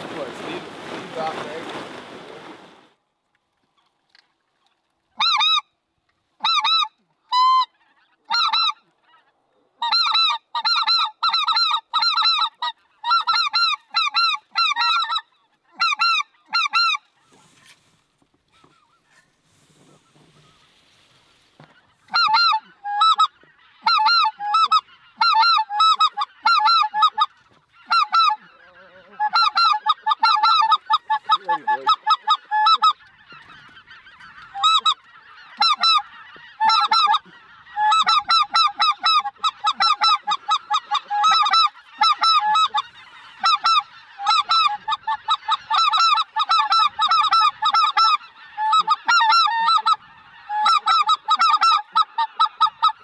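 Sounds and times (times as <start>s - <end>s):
geese honking in flight: 6.4s - 17.8s, 18.5s - 53.0s.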